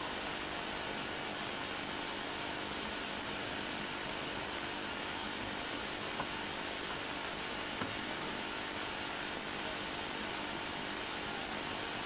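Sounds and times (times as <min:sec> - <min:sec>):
rain hissing on a car: 0:00.0 - 0:12.0.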